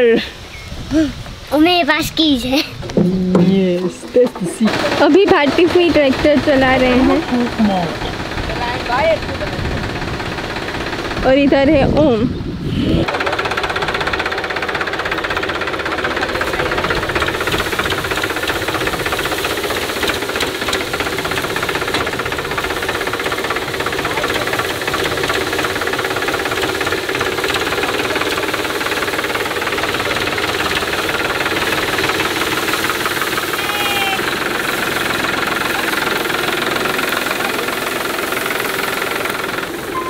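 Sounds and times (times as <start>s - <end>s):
tractor diesel engine running: 1.6s - 40.0s.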